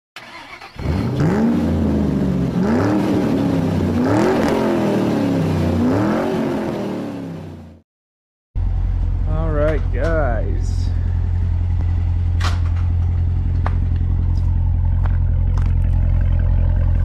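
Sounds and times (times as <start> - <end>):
car engine revving: 0.3 - 7.8, 10.6 - 17.0.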